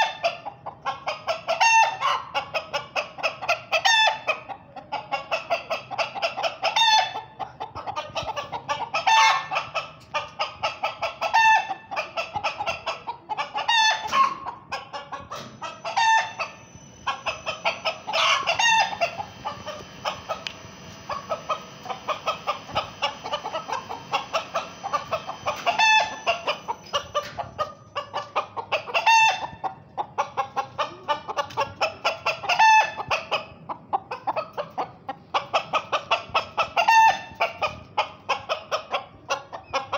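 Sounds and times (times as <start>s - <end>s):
loud chicken call: 0.0s - 4.5s, 5.1s - 7.4s, 8.2s - 29.8s, 30.6s - 33.5s, 35.6s - 37.8s
chickens clucking: 0.0s - 39.9s.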